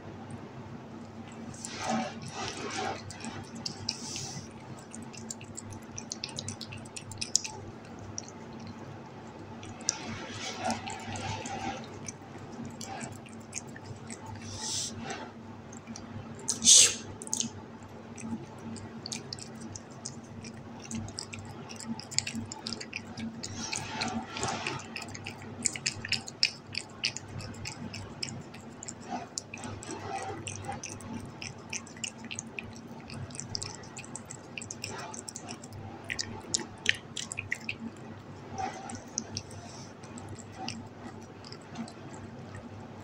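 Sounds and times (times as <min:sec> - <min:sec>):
kitten chewing and licking: 0:00.3 - 0:43.0.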